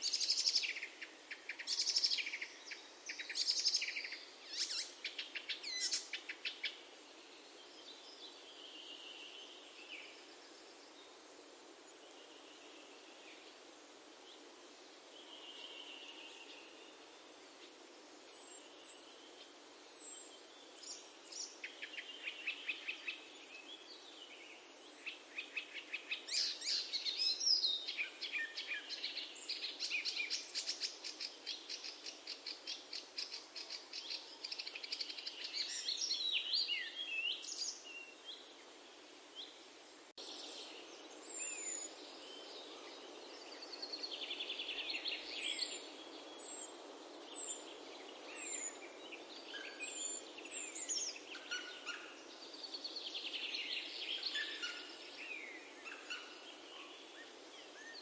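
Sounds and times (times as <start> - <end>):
outdoor background hiss: 0.0 - 58.0
songbirds singing: 0.0 - 58.0.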